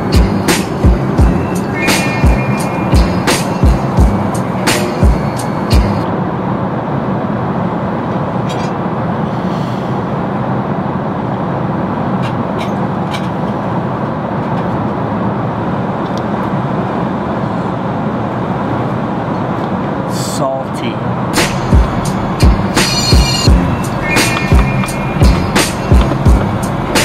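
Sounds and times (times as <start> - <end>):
airliner cabin roar: 0.0 - 27.0.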